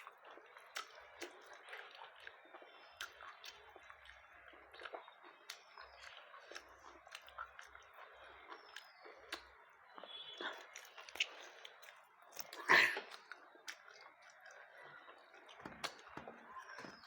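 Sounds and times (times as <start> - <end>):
mouth clicks and smacks: 0.0 - 17.0
quiet chewing: 0.0 - 17.0.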